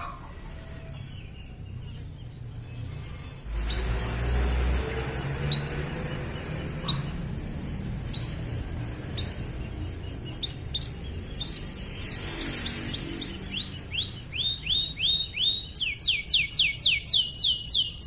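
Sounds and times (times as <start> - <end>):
canary chirping: 0.0 - 18.0.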